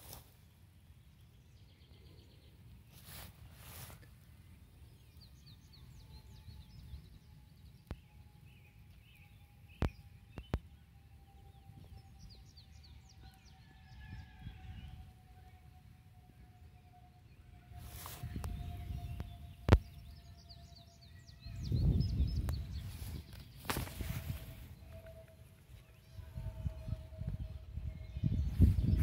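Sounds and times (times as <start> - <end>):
bird chirps: 4.9 - 15.7, 16.4 - 29.0.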